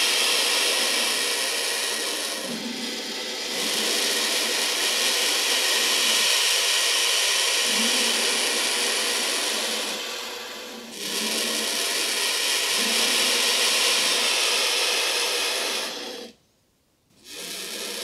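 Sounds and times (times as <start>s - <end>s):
vulture hissing: 0.0s - 16.4s, 17.2s - 18.0s.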